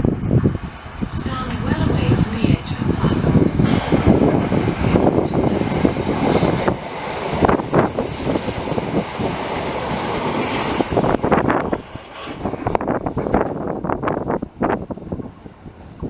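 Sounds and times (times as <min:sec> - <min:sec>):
train wheels rolling on rail: 0:00.0 - 0:16.0.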